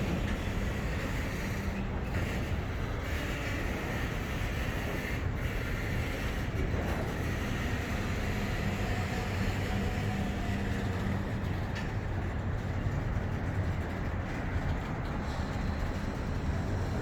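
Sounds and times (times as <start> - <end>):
freight train rumbling: 0.0 - 17.0.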